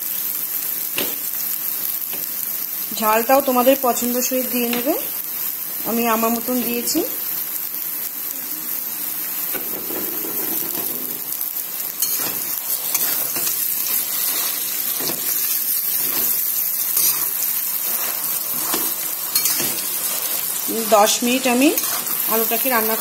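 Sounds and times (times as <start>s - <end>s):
food sizzling in oil in a pan: 0.0s - 23.0s.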